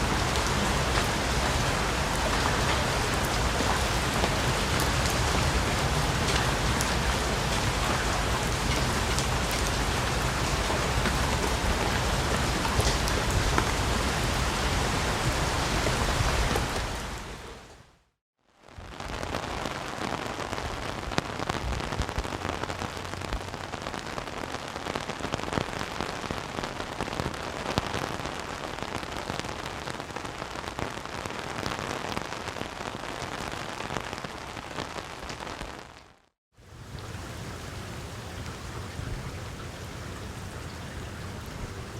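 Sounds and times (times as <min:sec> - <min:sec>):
rain pattering: 0:00.0 - 0:17.9, 0:18.6 - 0:41.9.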